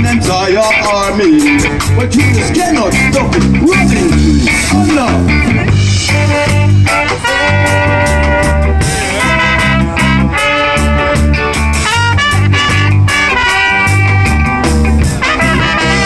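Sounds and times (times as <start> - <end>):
guitar: 0.0 - 16.0
pulsing bass: 0.0 - 16.0
ska band playing live: 0.0 - 16.0.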